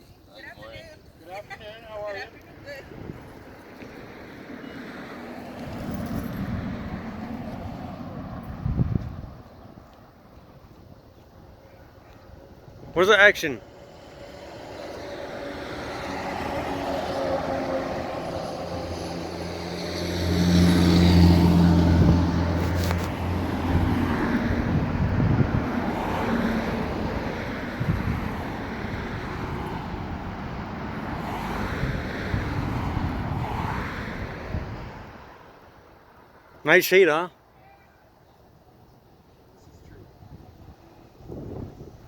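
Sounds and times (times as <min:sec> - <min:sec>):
road traffic passing: 0:00.0 - 0:42.0
vehicle engine hum passing: 0:02.0 - 0:12.9, 0:13.6 - 0:36.6.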